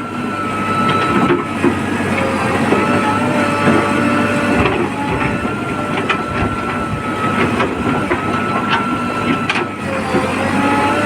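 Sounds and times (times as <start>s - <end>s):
backhoe engine and hydraulic whine: 0.0s - 11.0s.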